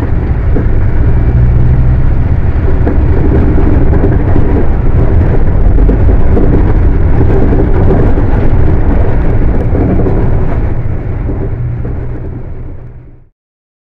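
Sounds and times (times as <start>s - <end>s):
diesel bus engine rumbling: 0.0s - 13.3s.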